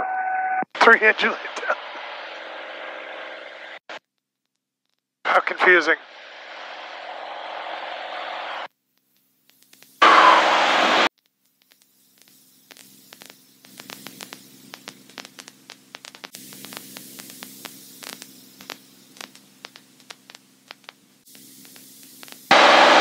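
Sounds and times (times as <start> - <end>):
radio static hiss: 0.0 - 4.0, 5.2 - 23.0
crackles and clicks: 0.6 - 23.0.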